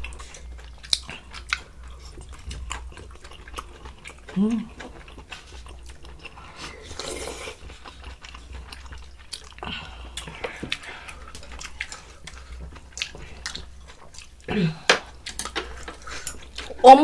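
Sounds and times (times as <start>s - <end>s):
chewing and biting: 0.0s - 16.8s.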